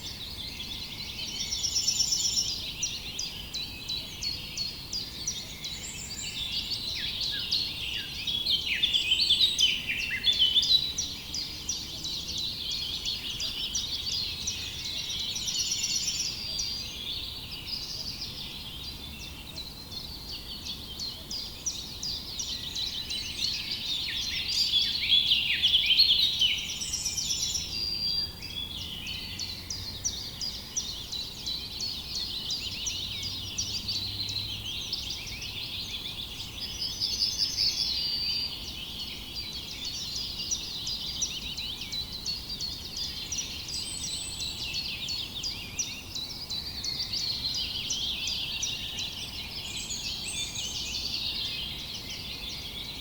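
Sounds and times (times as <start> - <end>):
small birds chirping and singing: 0.0 - 53.0.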